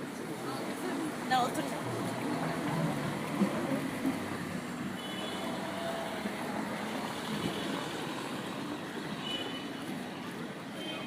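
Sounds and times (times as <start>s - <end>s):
traffic noise: 0.0s - 11.0s
vehicles passing: 0.0s - 11.0s.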